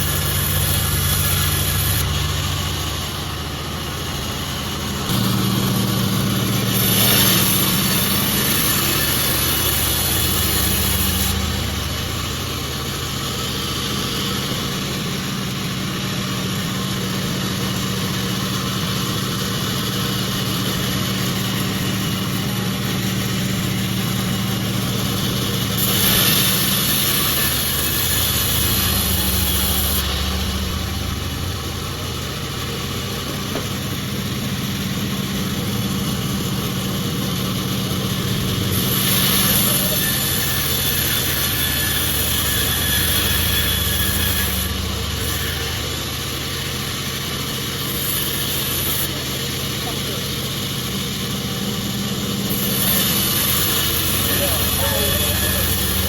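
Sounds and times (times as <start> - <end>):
saw hissing through wood: 0.0 - 56.0
sawmill machine hum: 0.0 - 56.0.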